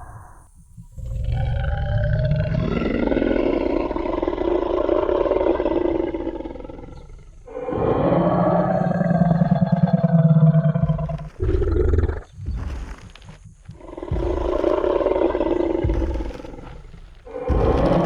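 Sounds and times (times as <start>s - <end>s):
deep dinosaur roar: 1.2s - 18.0s.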